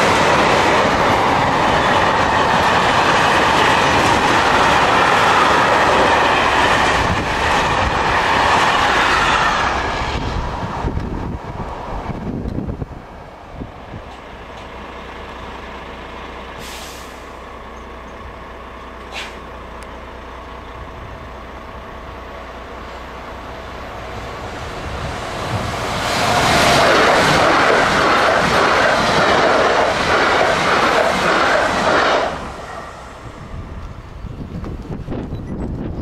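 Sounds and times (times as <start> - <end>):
passenger train passing: 0.0 - 36.0.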